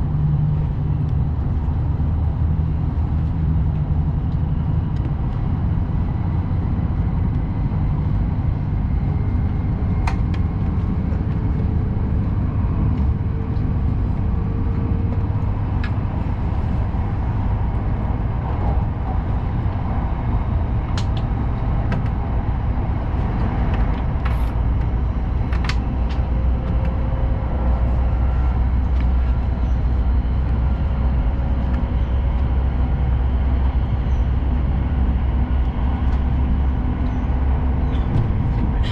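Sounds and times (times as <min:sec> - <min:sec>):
train rumble and hiss: 0:07.7 - 0:38.9.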